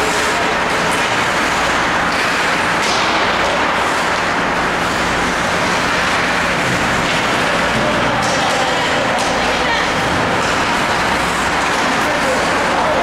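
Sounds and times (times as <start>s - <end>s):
ice rink background noise: 0.0s - 13.0s.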